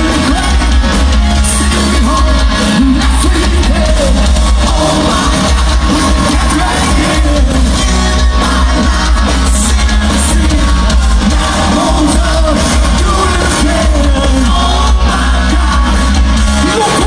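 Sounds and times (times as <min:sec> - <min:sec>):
live rock band playing: 0:00.0 - 0:17.0
male singer: 0:00.0 - 0:17.0.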